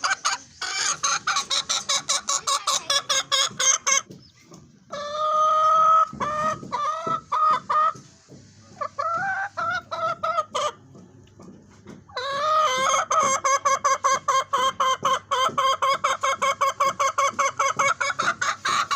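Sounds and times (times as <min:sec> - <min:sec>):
hen clucking and cackling: 0:00.0 - 0:18.9.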